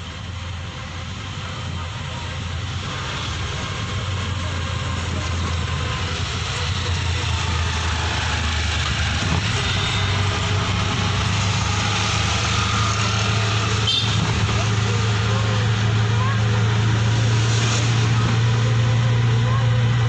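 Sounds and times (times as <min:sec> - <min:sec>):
rickshaw engine humming: 0:00.0 - 0:20.0
road and wind noise: 0:00.0 - 0:20.0.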